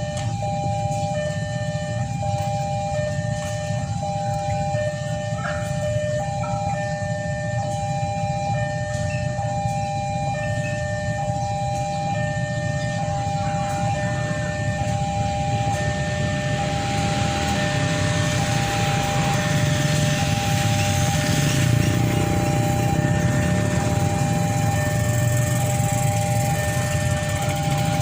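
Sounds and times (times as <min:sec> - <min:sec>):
level crossing warning alarm: 0:00.0 - 0:28.0.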